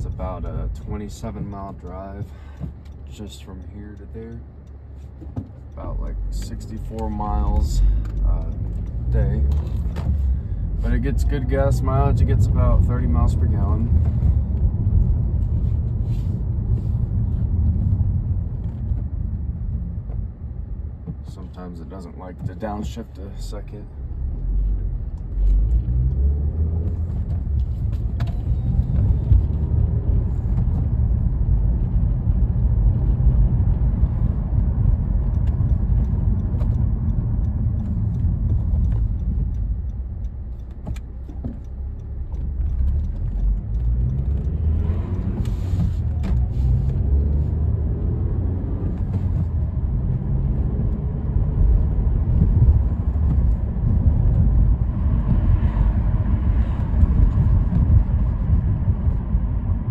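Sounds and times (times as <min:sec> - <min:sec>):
car engine from inside cabin: 0:00.0 - 0:59.9
road noise: 0:00.0 - 0:59.9.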